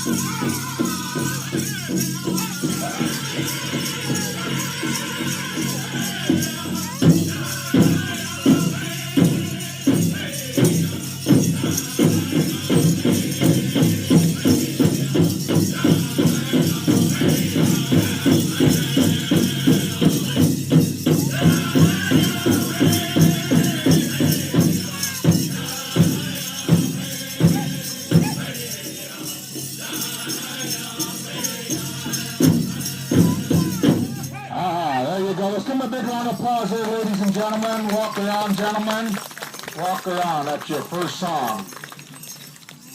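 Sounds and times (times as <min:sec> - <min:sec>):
group singing: 0:00.0 - 0:35.8
steady drum beat: 0:00.0 - 0:39.2
jingling rattle sounds: 0:00.0 - 0:42.9.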